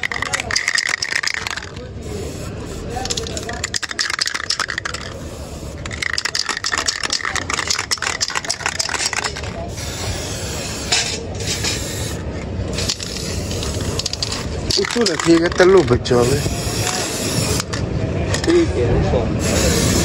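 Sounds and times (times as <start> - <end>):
spray can hissing: 0.0 - 17.8, 19.4 - 20.0
spray paint can rattling: 0.0 - 18.5, 19.4 - 20.0.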